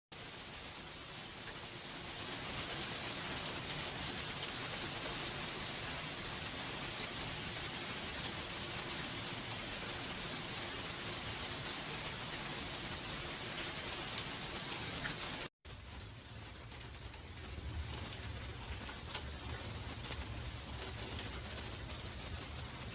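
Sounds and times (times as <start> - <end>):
steady rain: 0.1 - 22.9.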